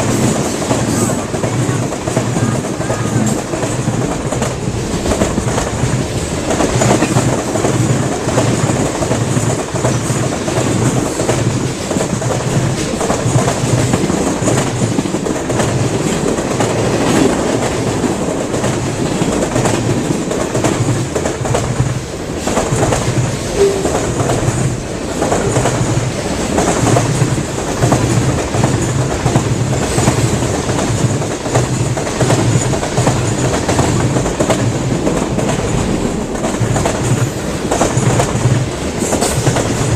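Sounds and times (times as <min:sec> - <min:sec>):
train wheels clacking: 0:00.0 - 0:39.9.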